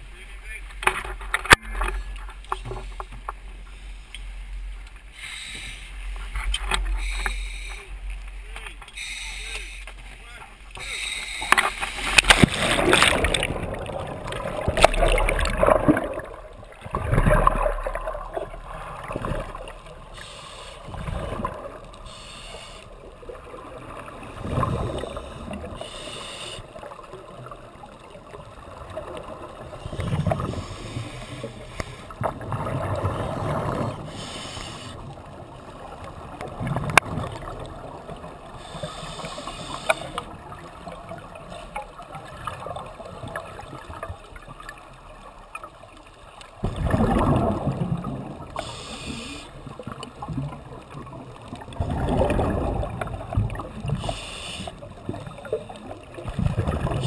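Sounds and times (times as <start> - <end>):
rush of water: 4.1 - 26.1, 26.8 - 57.0.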